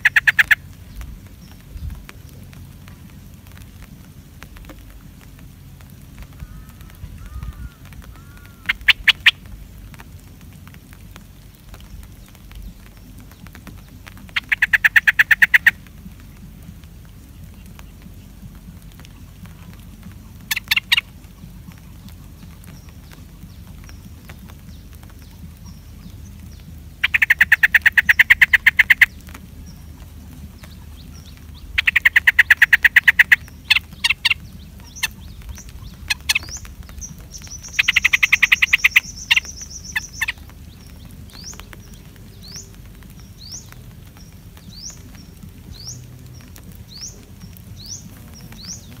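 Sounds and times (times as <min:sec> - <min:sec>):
birds chattering rapidly: 0:00.0 - 0:10.0, 0:10.6 - 0:49.0.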